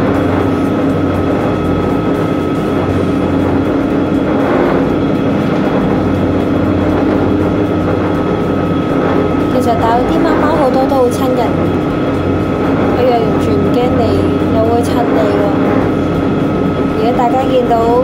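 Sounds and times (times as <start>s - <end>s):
steady machine drone: 0.0s - 18.0s.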